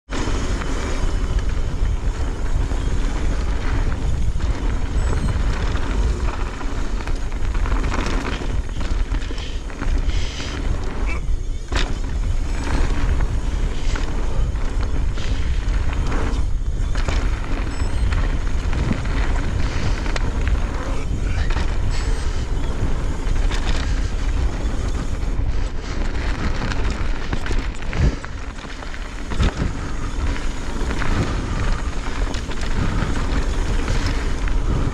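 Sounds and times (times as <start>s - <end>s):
bike rattling over rough ground: 0.1s - 34.9s
wind rumble on microphone: 0.1s - 34.9s.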